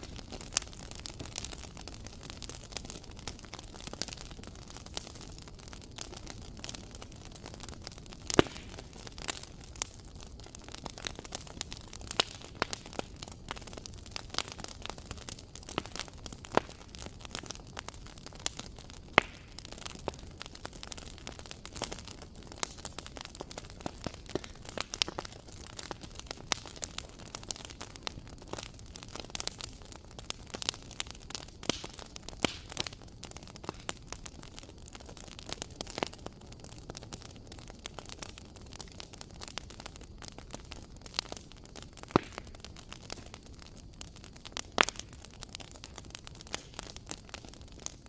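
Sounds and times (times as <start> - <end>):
fire pops and snaps: 0.0 - 48.0
wood fire crackling: 0.0 - 48.0.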